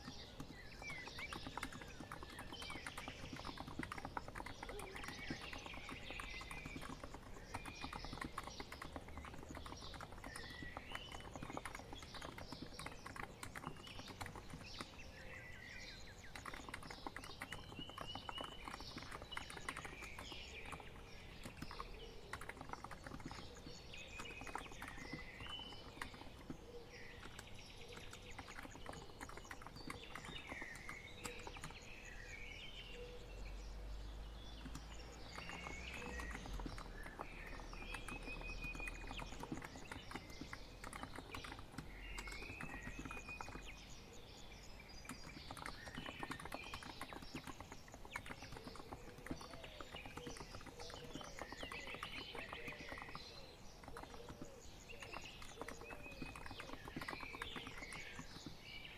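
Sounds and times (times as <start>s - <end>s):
keyboard typing: 0.0s - 32.6s, 34.3s - 58.9s
birds chirping: 0.0s - 58.9s.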